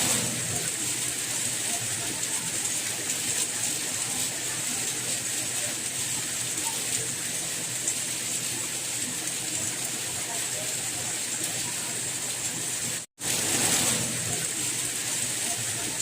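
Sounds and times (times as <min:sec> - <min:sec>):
soft rain hissing: 0:00.0 - 0:16.0.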